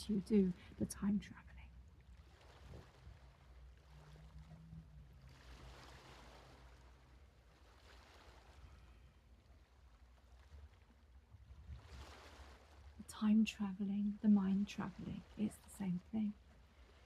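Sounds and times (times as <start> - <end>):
faint ocean waves: 0.0 - 17.0
low steady hum: 0.0 - 17.0.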